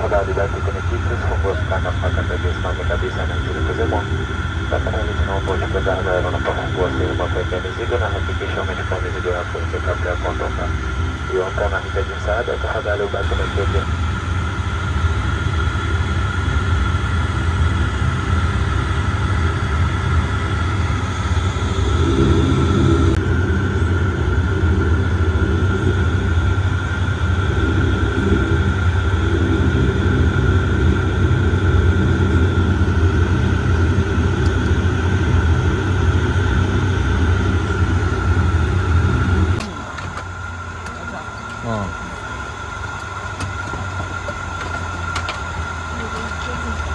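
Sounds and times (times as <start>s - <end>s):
high whine: 0.0s - 46.9s
turboprop engines droning: 0.0s - 46.9s.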